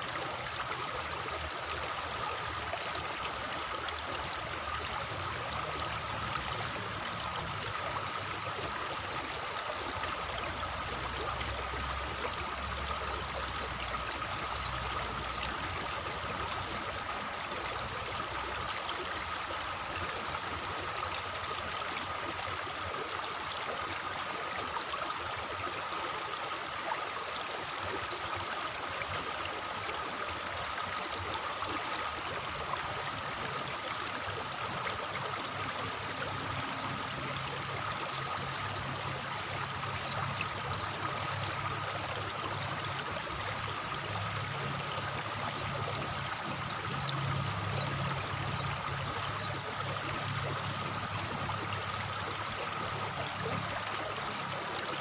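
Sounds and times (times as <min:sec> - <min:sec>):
water flowing in a channel: 0:00.0 - 0:55.0.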